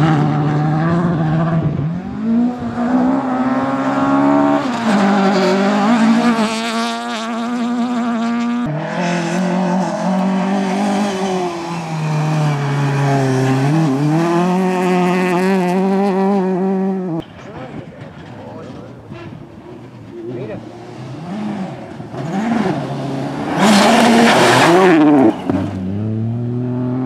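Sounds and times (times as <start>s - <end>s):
rally car engines revving: 0.0s - 27.0s.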